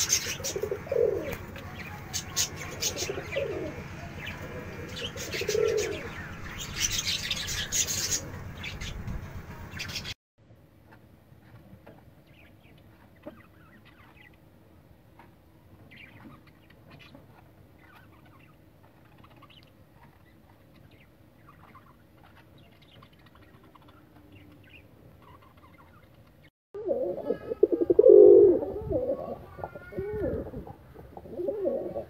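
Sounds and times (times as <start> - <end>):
small birds chirping: 0.0 - 10.2, 10.9 - 26.5.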